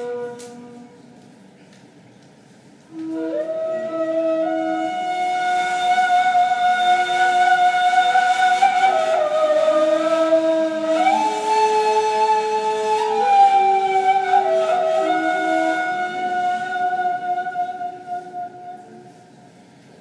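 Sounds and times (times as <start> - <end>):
reed flutes playing slow notes: 0.0 - 1.4, 2.8 - 19.5.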